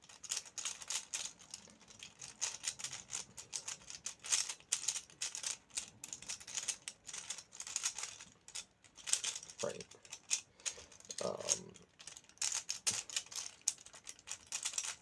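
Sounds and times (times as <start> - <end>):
puzzle cube clicking and clacking: 0.1 - 15.0.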